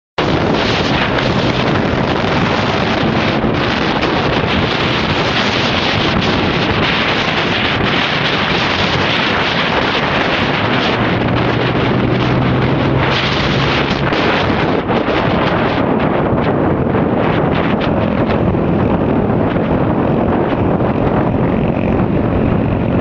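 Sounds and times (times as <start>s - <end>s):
wind rushing over microphone: 0.2s - 23.0s.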